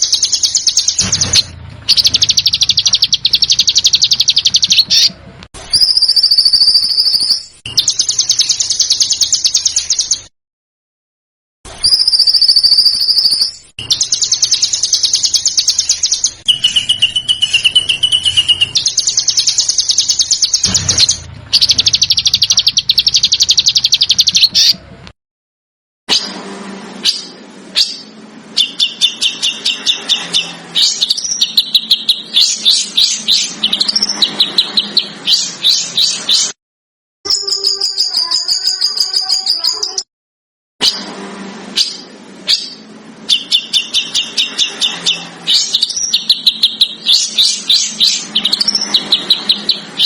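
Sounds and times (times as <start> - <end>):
high bird whistles: 0.0 - 10.3, 11.8 - 24.8, 27.0 - 36.6, 41.7 - 50.0
songbird rapid rattling song: 0.0 - 10.3, 11.7 - 24.8, 27.0 - 36.6, 40.8 - 50.0.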